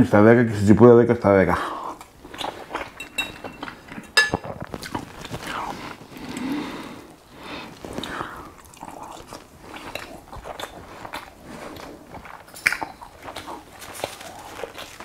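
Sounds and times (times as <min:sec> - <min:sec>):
man chewing with open mouth: 0:01.7 - 0:15.0.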